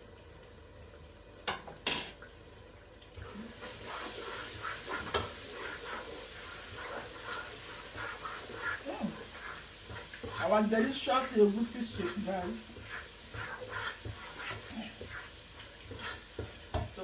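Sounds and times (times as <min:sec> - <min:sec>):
cooking hiss: 0:00.0 - 0:17.0
utensil stirring soup: 0:03.0 - 0:17.0.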